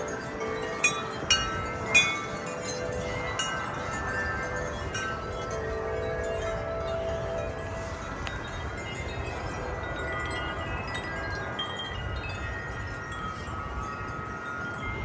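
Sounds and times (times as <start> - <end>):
wind chimes ringing: 0.0 - 15.0
wind rumbling on microphone: 0.0 - 15.0.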